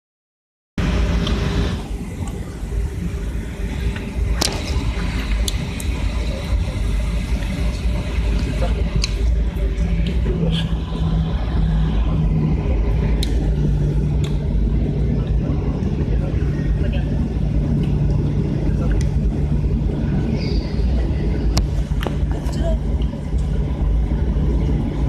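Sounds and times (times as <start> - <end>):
low hum: 0.8 - 25.0
vehicle engine rumble: 0.8 - 25.0.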